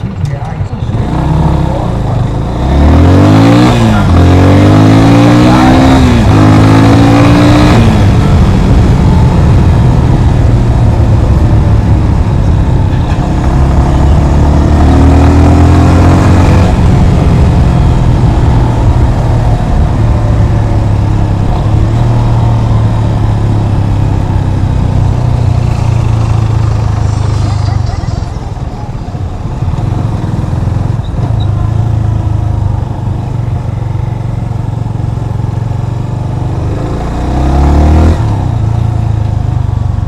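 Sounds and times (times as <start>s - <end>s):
motorcycle engine rumbling: 0.0s - 40.0s.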